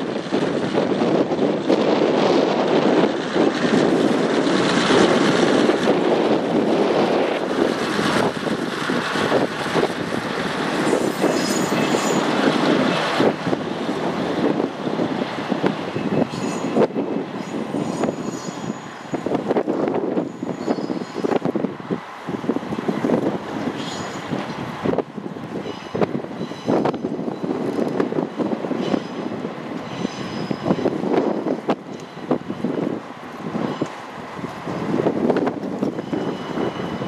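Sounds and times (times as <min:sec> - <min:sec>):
diesel railcar engine: 0:00.0 - 0:37.0
wheels clacking on rails: 0:00.0 - 0:37.0.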